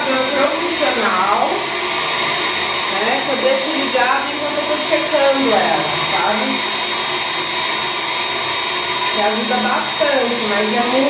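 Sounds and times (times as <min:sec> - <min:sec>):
blow dryer air rush: 0:00.0 - 0:11.0
high motor whine: 0:00.0 - 0:11.0.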